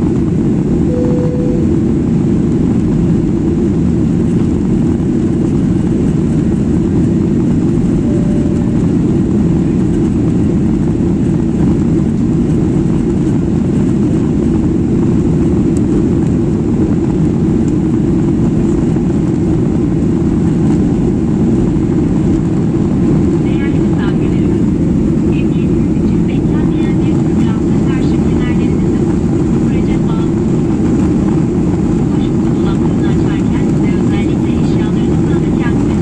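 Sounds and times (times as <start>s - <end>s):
airliner cabin jet engine rumble: 0.0s - 36.0s.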